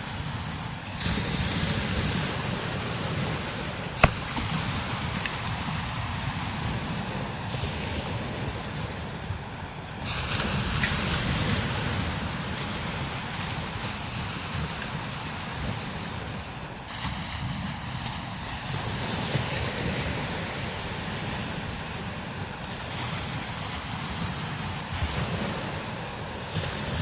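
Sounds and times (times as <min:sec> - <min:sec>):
strong wind hissing: 0:00.0 - 0:27.0
wind buffeting microphone: 0:00.0 - 0:27.0.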